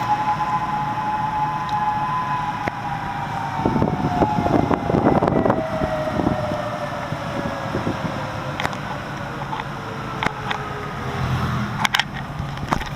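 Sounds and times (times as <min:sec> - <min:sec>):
warning siren steady falling tone: 0:00.0 - 0:12.0
car road noise: 0:00.0 - 0:12.9.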